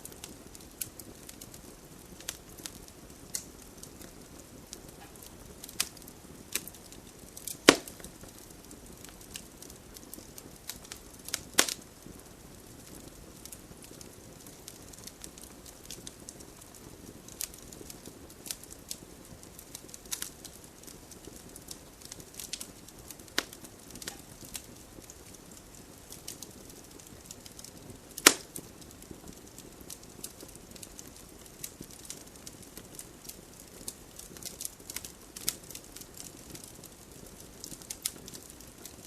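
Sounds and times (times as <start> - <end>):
campfire snaps and pops: 0.0 - 39.0
flame rustling: 0.0 - 39.0.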